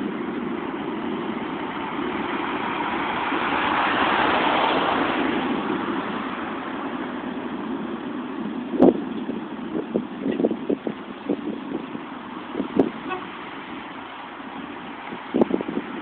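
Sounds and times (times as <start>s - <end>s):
road vehicle passing: 0.0s - 16.0s
steady rushing noise: 0.0s - 16.0s.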